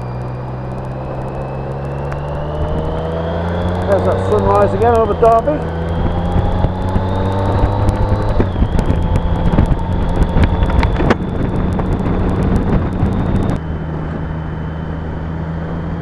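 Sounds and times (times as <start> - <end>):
crackling clicks: 0.0 - 13.6
motorcycle engine running: 0.0 - 16.0
wind rushing over microphone: 0.0 - 16.0.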